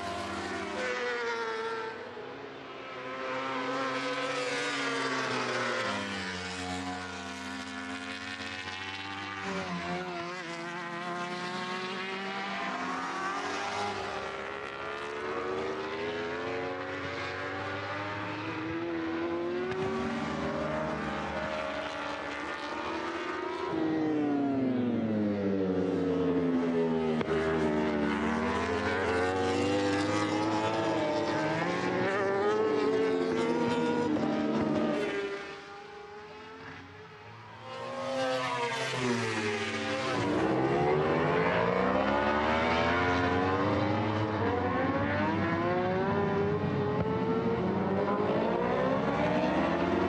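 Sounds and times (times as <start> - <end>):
racing motorcycle engines: 0.0 - 50.0.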